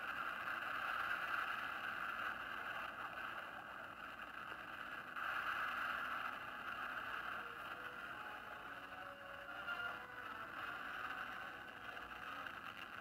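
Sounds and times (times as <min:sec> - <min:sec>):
old film soundtrack hiss: 0:00.0 - 0:13.0.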